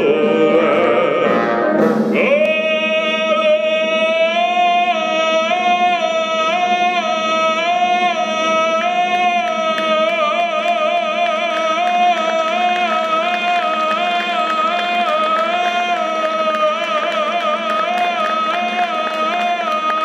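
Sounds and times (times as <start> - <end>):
brass band playing: 0.0 - 20.0
man singing operatic high note: 0.0 - 20.0.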